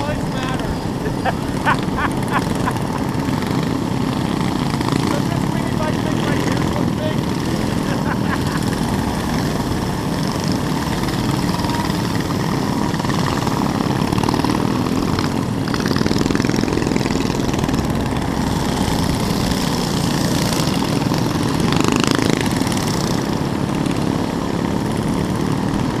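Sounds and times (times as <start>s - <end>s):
mini bike engine running: 0.0s - 26.0s.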